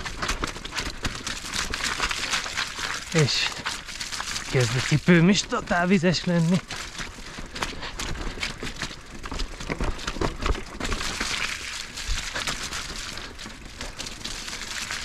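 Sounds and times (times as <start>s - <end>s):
bike rattling: 0.0s - 15.0s
bike tyres crunching on trail: 0.0s - 15.0s.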